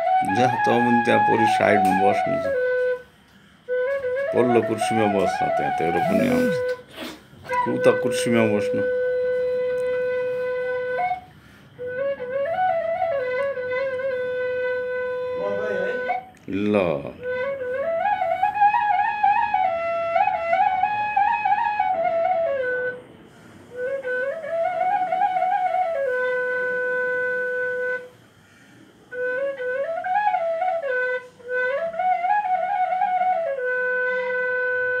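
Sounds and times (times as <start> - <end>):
bamboo flute folk tune: 0.0 - 28.2, 29.0 - 35.0.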